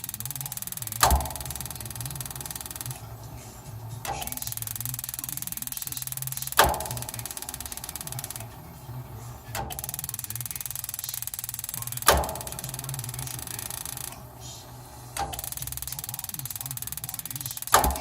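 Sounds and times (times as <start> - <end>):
furnace rattling buzz: 0.0 - 18.0
furnace restart click: 0.0 - 18.0.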